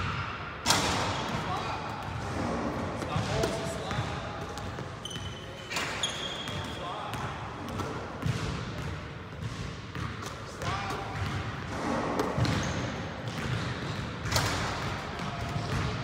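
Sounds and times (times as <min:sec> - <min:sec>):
basketballs bouncing on hardwood floor: 0:01.2 - 0:05.4, 0:06.0 - 0:16.0.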